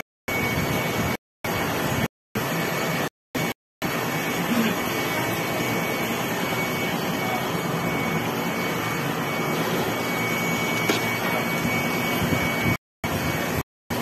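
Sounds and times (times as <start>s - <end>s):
faint high whine: 0.3s - 13.6s.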